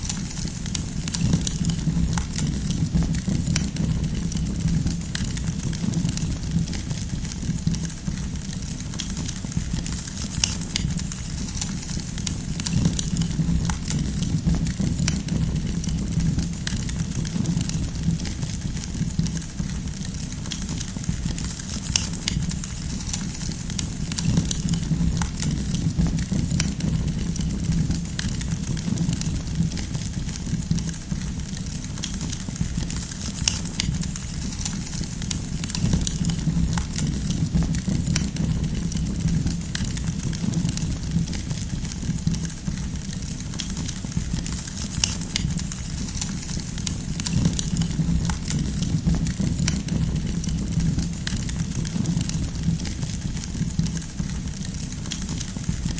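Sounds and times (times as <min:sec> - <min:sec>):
firewood crackling and popping: 0:00.0 - 0:55.9
low fire rumble: 0:00.0 - 0:55.9.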